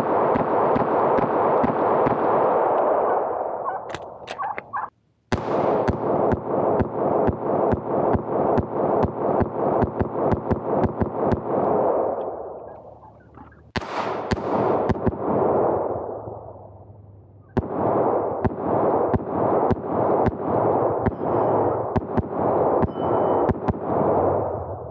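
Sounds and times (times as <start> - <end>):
pistol shots with echo: 0.0 - 13.0, 13.7 - 16.8, 17.5 - 24.8.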